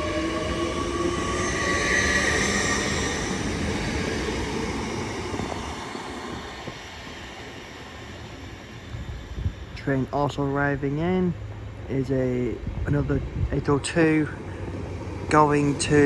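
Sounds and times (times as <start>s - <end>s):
train pulling away: 0.0s - 10.5s, 13.2s - 16.0s.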